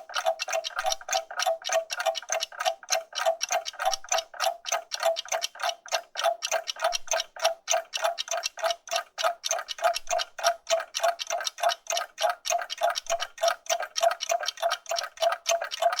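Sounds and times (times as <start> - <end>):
clocks ticking: 0.0 - 16.0.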